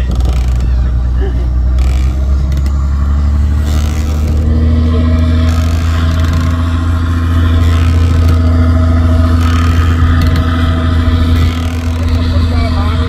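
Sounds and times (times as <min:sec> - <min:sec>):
boat engine running: 0:00.0 - 0:13.0
wind: 0:00.0 - 0:13.0.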